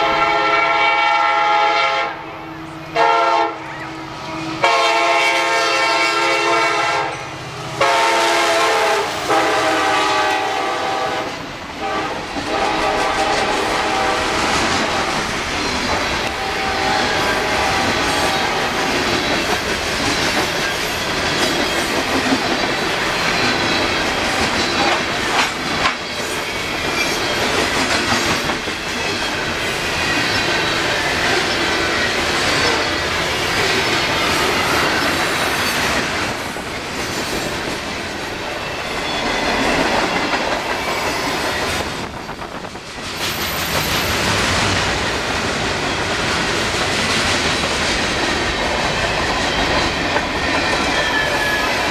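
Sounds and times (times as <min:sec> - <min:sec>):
train wheels clattering over rails: 0:07.0 - 0:51.9.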